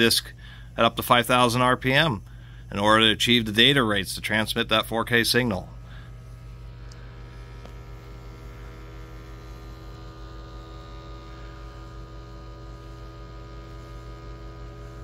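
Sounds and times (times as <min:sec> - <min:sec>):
disc drive vibrating drone: 0:00.0 - 0:15.0.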